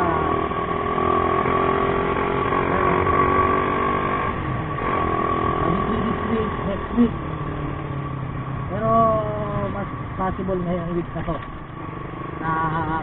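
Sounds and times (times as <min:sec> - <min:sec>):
motorcycle engine cruising: 0:00.0 - 0:13.0
road and wind noise: 0:00.0 - 0:13.0.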